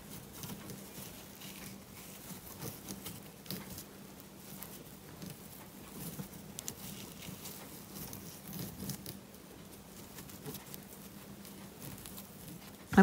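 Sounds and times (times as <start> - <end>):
low steady hum: 0.0 - 13.0
twine rustling through crochet hook: 0.0 - 13.0.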